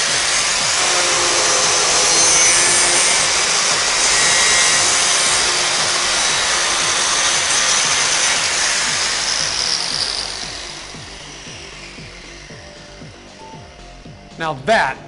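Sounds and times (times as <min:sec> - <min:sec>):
grinder grinding metal: 0:00.0 - 0:13.9.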